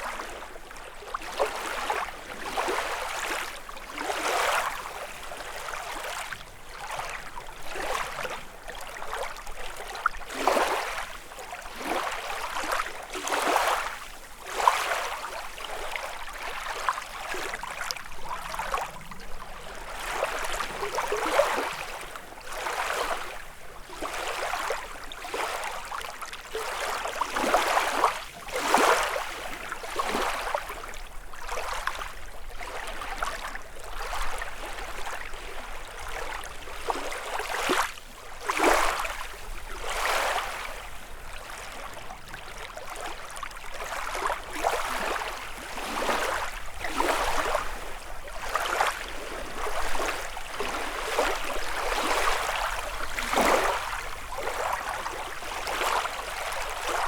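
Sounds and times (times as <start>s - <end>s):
lake waves lapping on shore: 0.0s - 57.0s.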